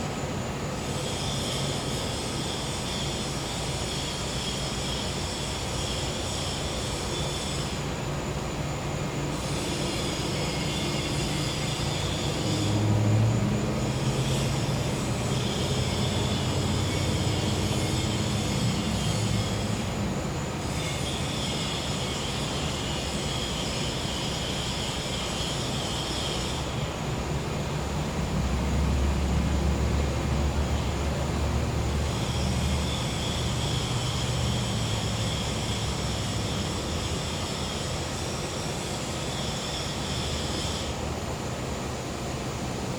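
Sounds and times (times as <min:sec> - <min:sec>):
cicadas and crickets buzzing: 0:00.0 - 0:42.9.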